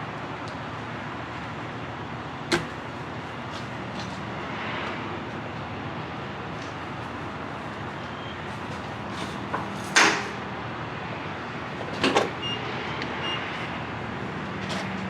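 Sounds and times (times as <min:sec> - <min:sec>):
vehicle noise: 0:00.0 - 0:15.0.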